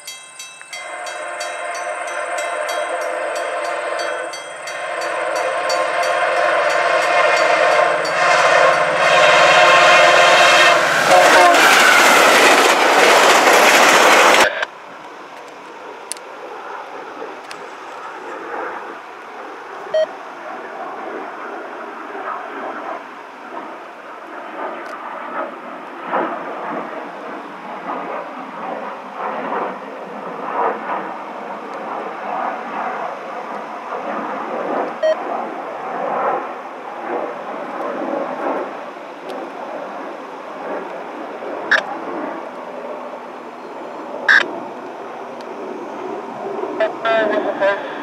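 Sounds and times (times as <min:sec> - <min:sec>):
distant freight train rumble: 0:00.0 - 0:48.0.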